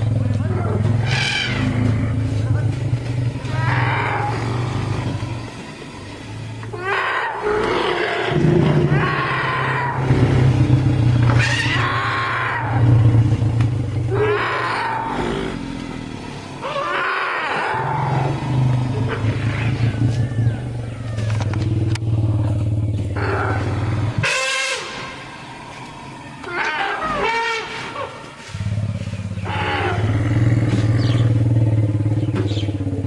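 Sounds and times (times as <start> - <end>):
elephant trumpeting: 0.0 - 21.6, 23.1 - 32.2
elephants screeching calls: 0.0 - 21.6, 22.2 - 32.8
low rumbling: 0.0 - 33.0.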